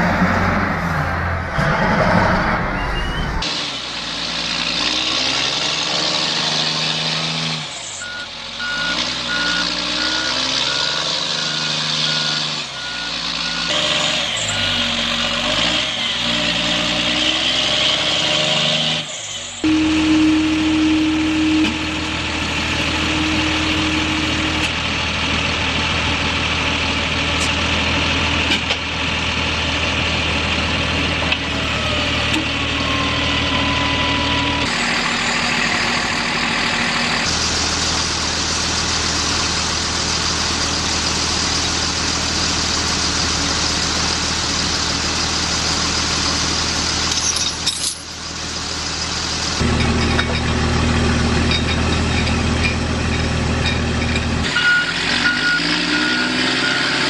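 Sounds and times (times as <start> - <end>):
heavy truck engines idling: 0.0 - 57.0.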